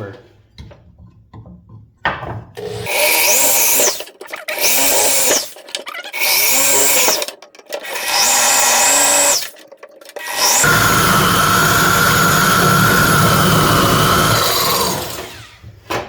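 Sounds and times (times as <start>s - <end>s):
electric drill whining: 2.6s - 15.6s.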